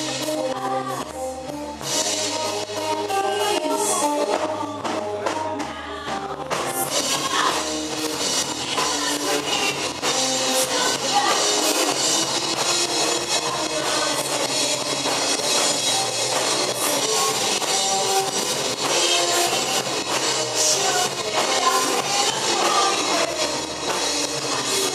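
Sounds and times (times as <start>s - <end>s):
drum kit playing: 0.0s - 24.9s
rock music: 0.0s - 24.9s.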